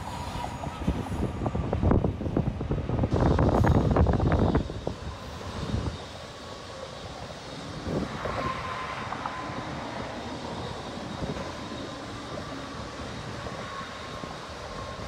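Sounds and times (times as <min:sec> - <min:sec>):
freight cars rumbling on rails: 0:00.0 - 0:15.0
road traffic: 0:00.0 - 0:15.0
wind: 0:00.0 - 0:15.0.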